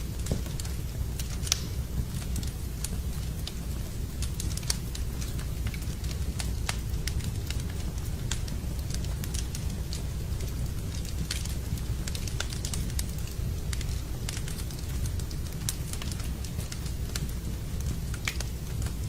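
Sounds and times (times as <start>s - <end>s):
campfire crackling: 0.0s - 19.0s
sharp pops of fire: 0.1s - 19.0s.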